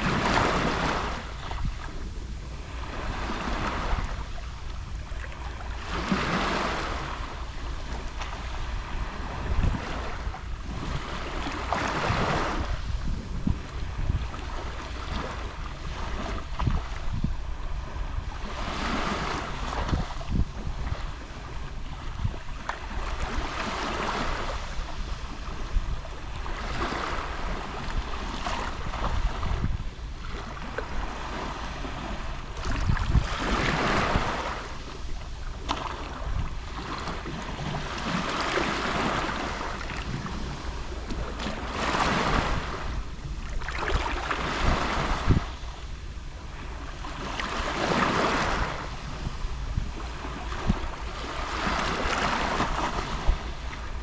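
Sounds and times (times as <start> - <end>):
sea waves lapping on shore: 0.0 - 54.0.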